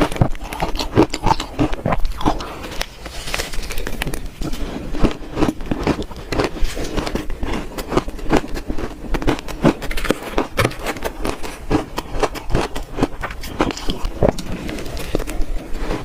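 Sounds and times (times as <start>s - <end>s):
ice being crunched and chewed: 0.0s - 16.0s.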